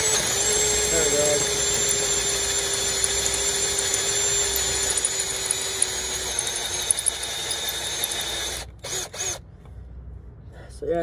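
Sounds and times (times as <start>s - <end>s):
drill bit scraping through steel: 0.0s - 9.4s
drill motor whine: 0.0s - 9.4s.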